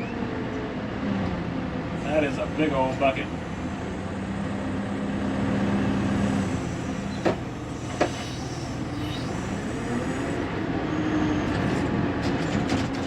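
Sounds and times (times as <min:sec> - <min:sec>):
backhoe diesel engine under load: 0:00.0 - 0:13.0.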